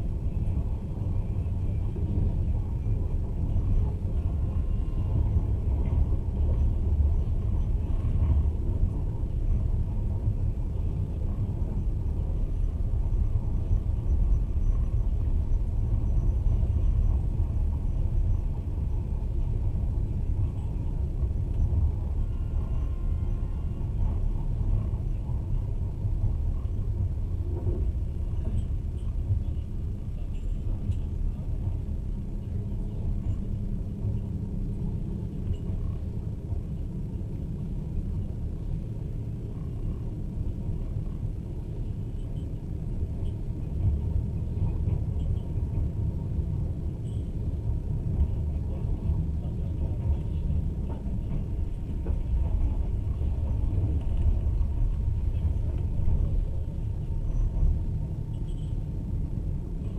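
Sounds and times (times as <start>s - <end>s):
train rumbling on rails: 0.0s - 59.9s.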